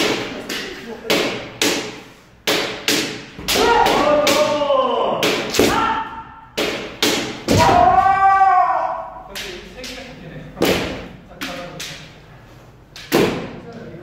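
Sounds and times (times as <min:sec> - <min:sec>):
bamboo swords striking: 0:00.0 - 0:08.5, 0:09.3 - 0:12.1, 0:12.9 - 0:13.6.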